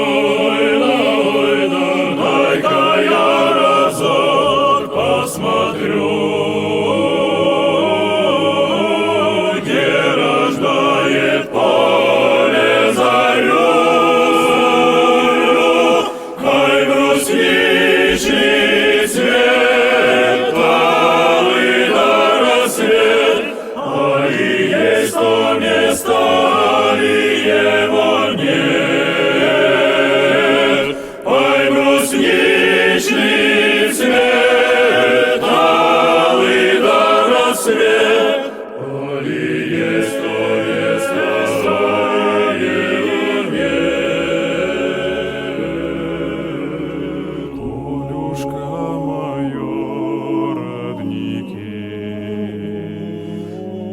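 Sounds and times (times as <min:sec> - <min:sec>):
choir singing in harmony: 0:00.0 - 0:53.9.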